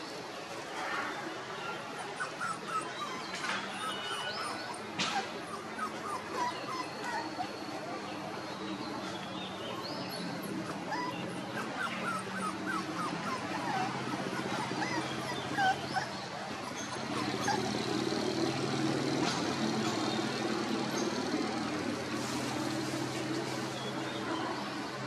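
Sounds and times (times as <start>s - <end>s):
puppies whimpering and yipping: 1.6s - 25.0s.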